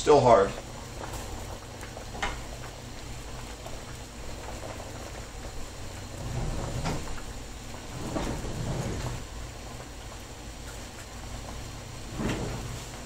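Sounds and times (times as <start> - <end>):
water boiling in saucepan: 0.0 - 13.0.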